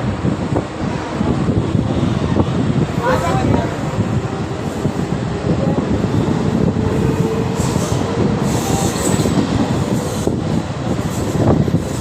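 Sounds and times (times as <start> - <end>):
train rumbling and rattling: 0.0 - 12.0.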